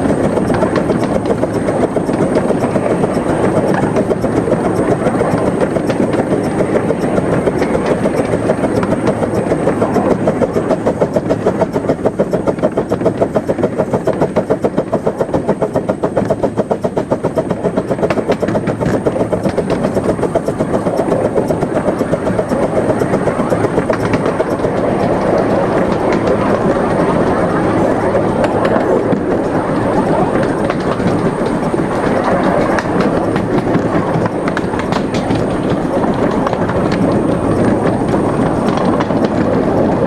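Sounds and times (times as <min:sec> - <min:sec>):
steam locomotive exhaust pulses: 0:00.0 - 0:40.0
wheels rumbling on track: 0:00.0 - 0:40.0.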